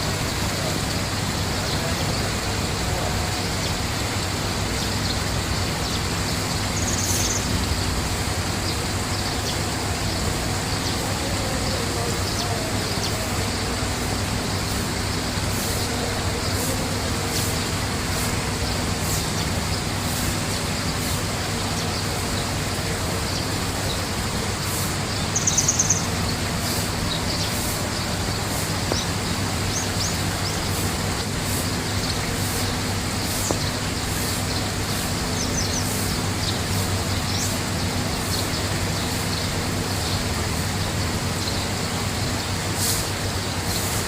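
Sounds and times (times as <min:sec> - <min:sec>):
steady rushing noise: 0:00.0 - 0:44.0
bird rapid trill: 0:00.8 - 0:22.6, 0:23.3 - 0:44.0.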